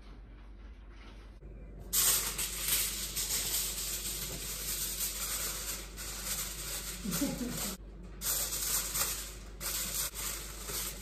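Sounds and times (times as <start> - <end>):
kitchen foil crinkling: 1.9 - 11.0.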